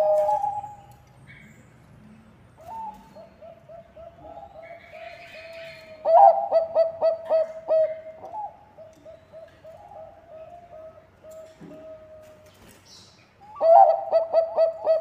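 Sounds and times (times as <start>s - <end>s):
dove cooing: 0.0s - 0.9s, 2.6s - 12.7s, 13.4s - 15.0s.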